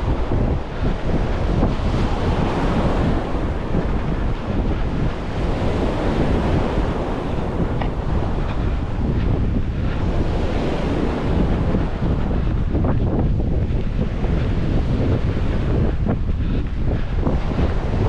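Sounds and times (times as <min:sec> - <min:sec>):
surf breaking on shore: 0:00.0 - 0:18.0
wind buffeting microphone: 0:00.0 - 0:18.0.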